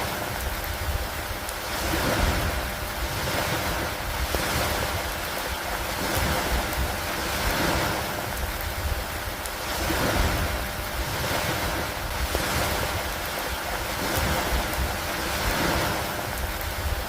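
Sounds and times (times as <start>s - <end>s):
rain and wind: 0.0s - 17.0s.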